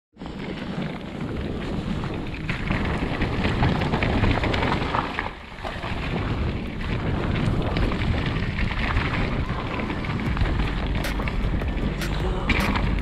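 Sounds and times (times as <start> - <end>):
bike clicking and rattling: 0.2 - 13.0
bike tyres rolling on dirt: 0.2 - 13.0
wind buffeting microphone: 0.2 - 13.0.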